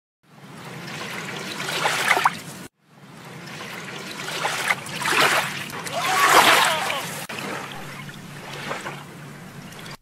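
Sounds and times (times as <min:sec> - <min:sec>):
water trickling and splashing: 0:00.3 - 0:10.0.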